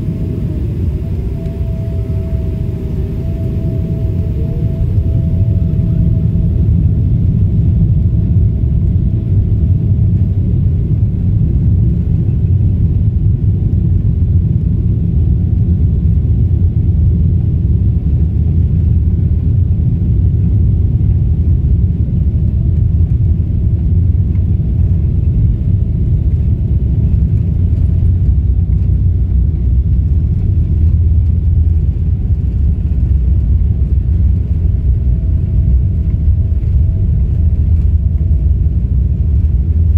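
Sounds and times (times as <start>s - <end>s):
faint steady whine: 0.0s - 39.9s
jet engines and wheels rumbling: 0.0s - 39.9s.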